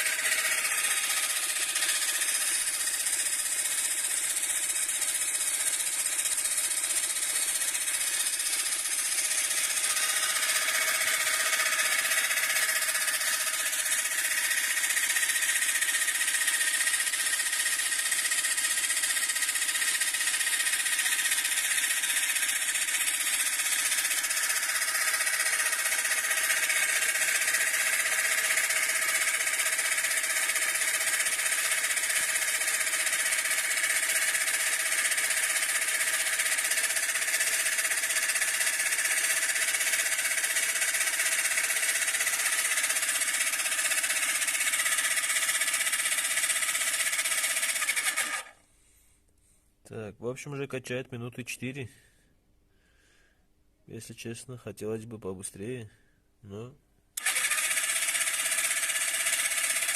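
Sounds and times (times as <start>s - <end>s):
air compressor running: 0.0s - 48.9s, 57.2s - 59.9s.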